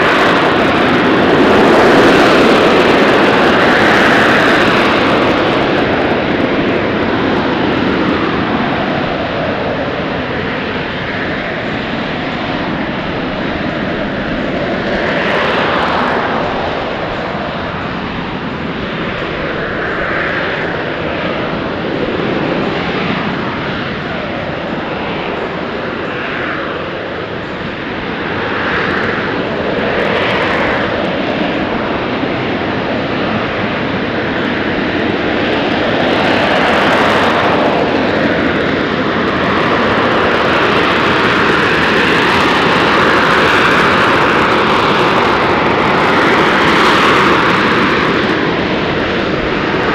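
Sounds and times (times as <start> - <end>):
jet engine roaring: 0.0 - 49.9.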